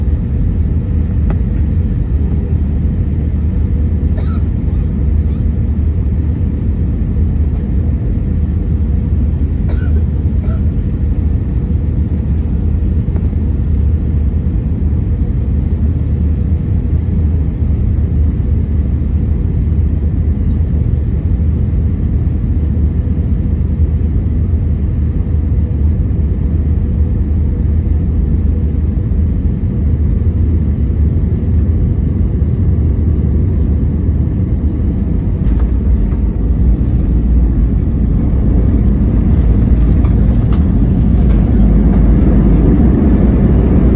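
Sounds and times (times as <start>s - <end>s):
airliner rumble: 0.0s - 43.9s.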